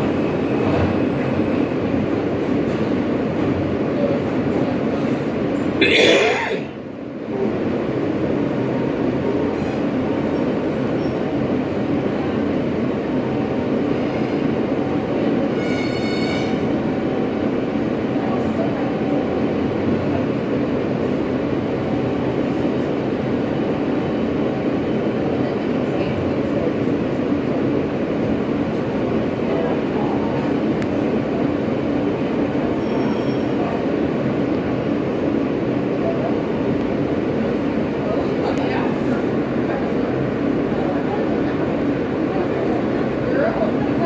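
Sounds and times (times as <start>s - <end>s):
subway car running noise: 0.0s - 44.0s.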